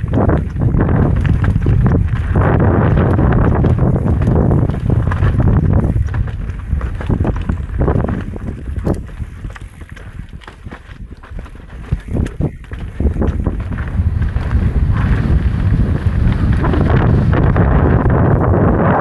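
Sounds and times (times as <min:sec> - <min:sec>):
tyres on dirt: 0:00.0 - 0:18.9
bike rattling and knocking: 0:00.0 - 0:19.0
wind rushing over microphone: 0:00.0 - 0:19.0.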